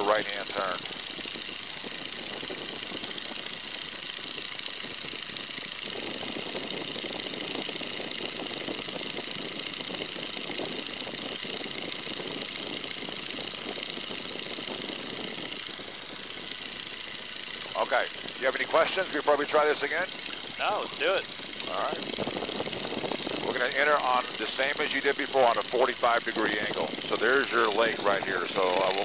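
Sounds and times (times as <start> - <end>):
biplane engine and propeller: 0.0 - 29.0.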